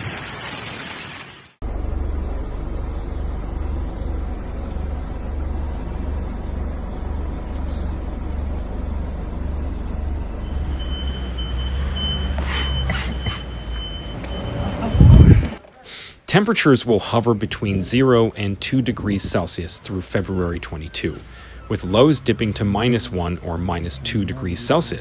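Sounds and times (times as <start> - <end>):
traffic engine rumble: 1.6 - 25.0.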